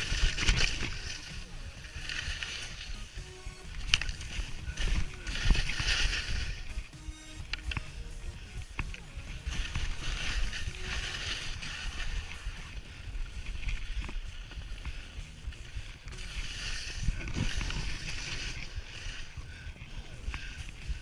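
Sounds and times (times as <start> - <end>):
skis scraping over snow: 0.0 - 21.0
wind rumble on microphone: 0.0 - 21.0.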